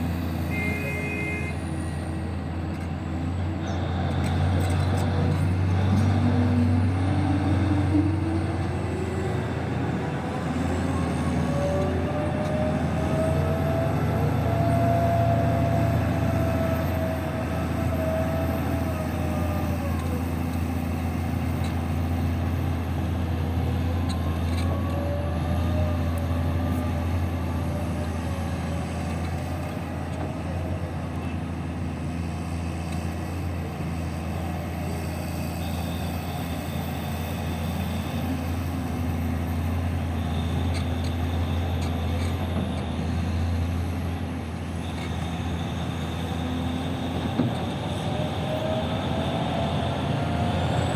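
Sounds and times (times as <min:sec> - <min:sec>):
diesel machinery droning: 0:00.0 - 0:50.9.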